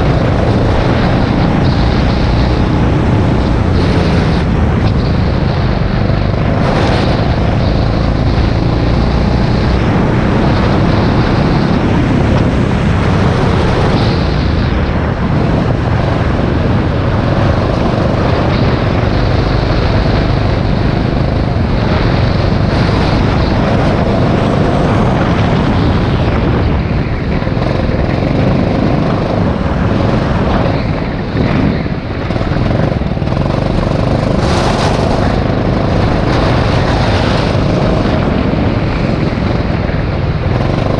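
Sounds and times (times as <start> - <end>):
go-kart engine droning: 0.0 - 40.9.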